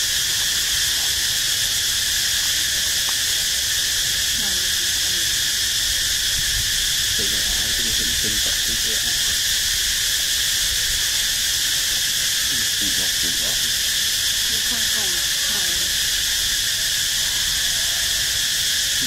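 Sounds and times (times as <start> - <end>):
faint murmuring voices: 0.0 - 9.4, 10.6 - 19.0
high-pitched insect chorus: 0.0 - 19.0.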